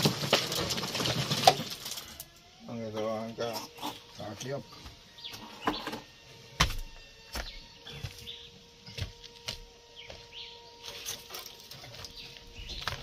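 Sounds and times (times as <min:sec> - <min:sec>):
birds chirping: 0:01.4 - 0:13.0.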